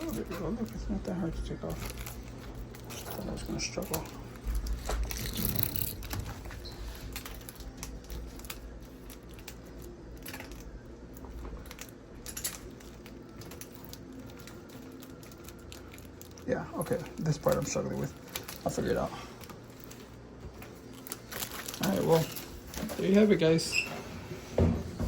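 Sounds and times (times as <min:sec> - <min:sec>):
plastic film being picked: 0:00.0 - 0:23.7.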